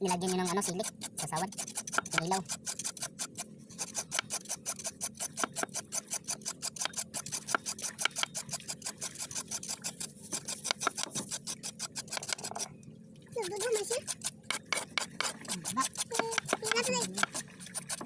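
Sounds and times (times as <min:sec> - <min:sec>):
knife scraping skin on board: 0:00.1 - 0:12.7, 0:13.4 - 0:18.0.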